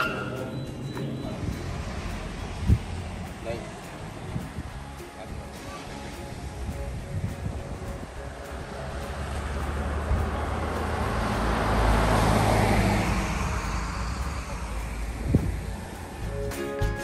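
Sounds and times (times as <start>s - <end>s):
vehicle passing by: 0.0s - 16.4s.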